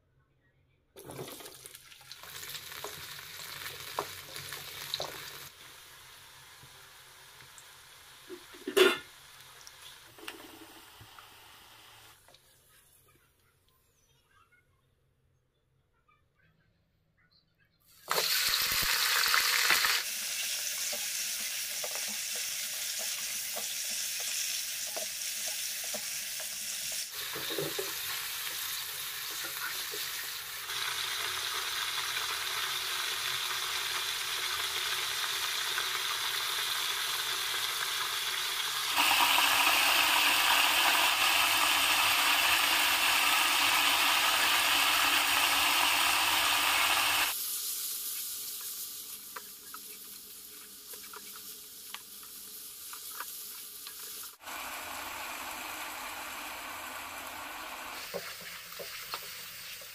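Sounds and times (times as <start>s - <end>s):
meat sizzling in hot oil: 1.3s - 11.5s, 18.1s - 59.9s.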